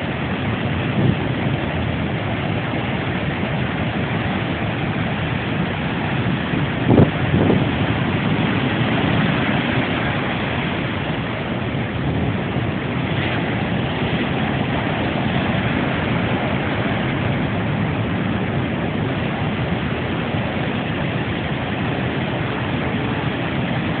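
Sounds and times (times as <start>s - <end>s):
roar of breaking waves: 0.0s - 24.0s
wind buffeting microphone: 0.0s - 24.0s.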